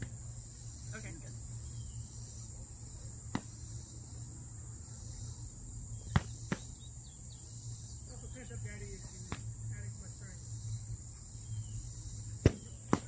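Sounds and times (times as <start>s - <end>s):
high insect chorus: 0.0s - 13.0s.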